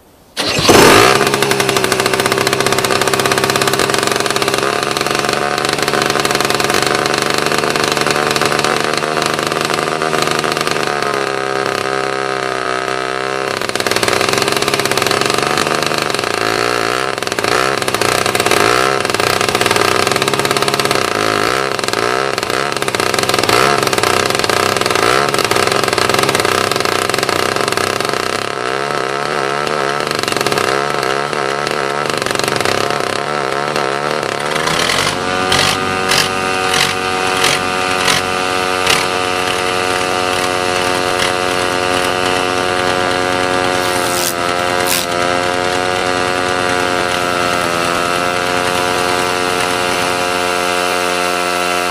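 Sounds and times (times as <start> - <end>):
diesel engine starting: 0.4 - 51.9
small two-stroke engine running: 0.4 - 51.9.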